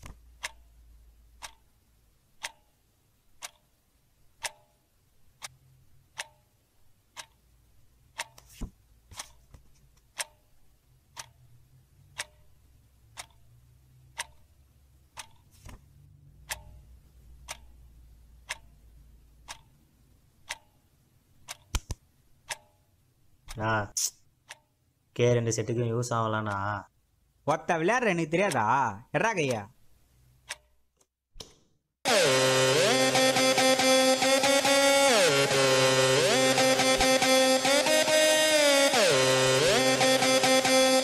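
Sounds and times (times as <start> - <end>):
clock ticking: 0.0 - 8.5, 10.0 - 15.6, 16.2 - 23.8, 24.4 - 30.9, 32.1 - 41.0.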